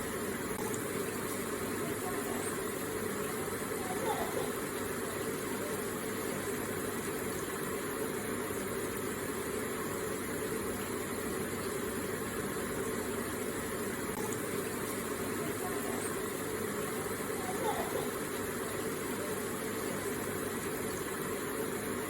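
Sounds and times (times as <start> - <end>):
water feature splashing: 0.0 - 22.0.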